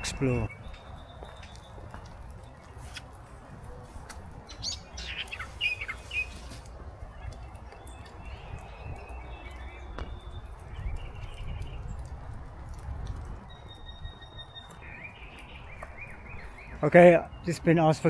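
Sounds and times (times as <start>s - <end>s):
small birds chirping: 0.0s - 3.2s, 4.4s - 18.0s.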